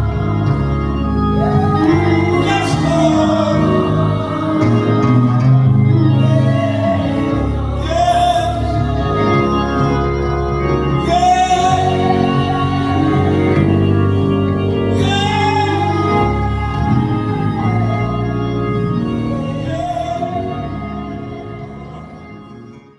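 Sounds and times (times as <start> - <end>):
organ chords: 0.0 - 22.9
person singing gospel: 0.0 - 22.9.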